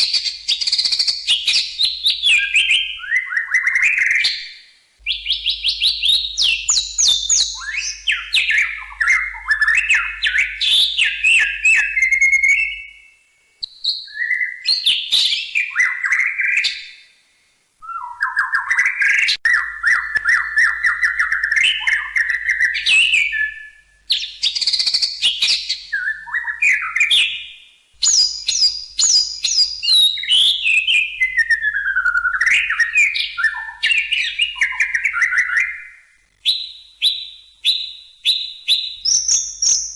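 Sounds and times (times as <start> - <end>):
songbird singing whistles: 0.0 - 17.2, 17.8 - 39.9.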